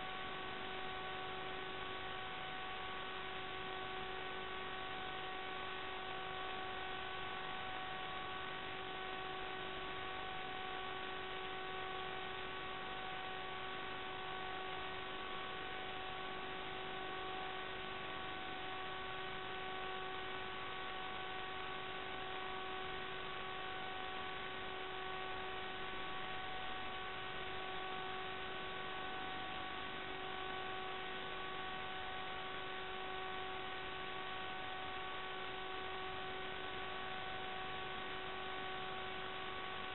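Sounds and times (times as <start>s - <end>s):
constant hiss: 0.0s - 39.9s
steady whine with overtones: 0.0s - 39.9s.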